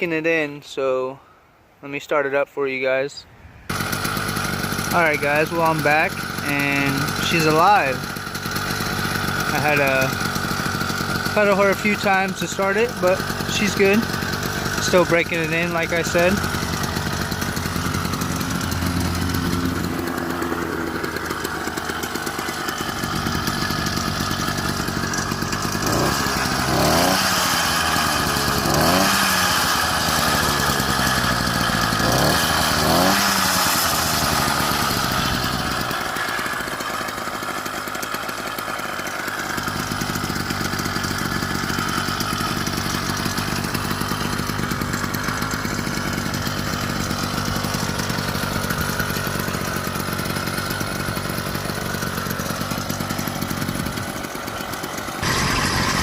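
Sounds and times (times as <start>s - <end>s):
two-stroke engine idling and revving: 3.7s - 56.0s.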